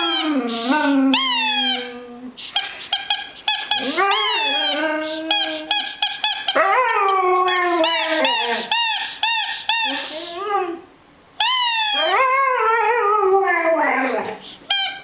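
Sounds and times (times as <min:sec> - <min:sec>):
dog howling and whining: 0:00.0 - 0:02.3, 0:03.6 - 0:15.0.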